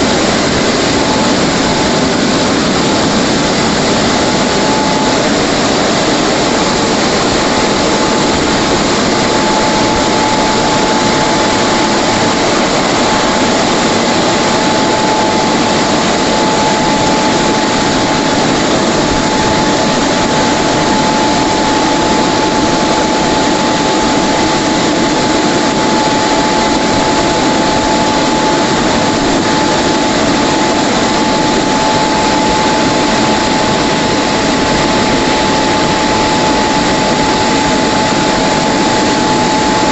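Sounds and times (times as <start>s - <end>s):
car wash blowers rushing air: 0.0s - 39.9s.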